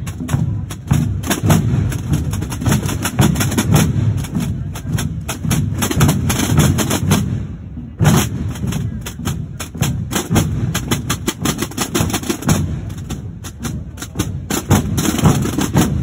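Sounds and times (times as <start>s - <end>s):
snare drums in marching rhythm: 0.0s - 16.0s.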